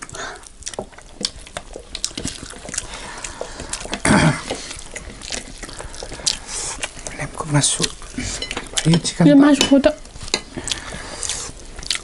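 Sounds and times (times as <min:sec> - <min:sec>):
chewing and lip-smacking: 0:00.0 - 0:09.2, 0:10.0 - 0:12.0.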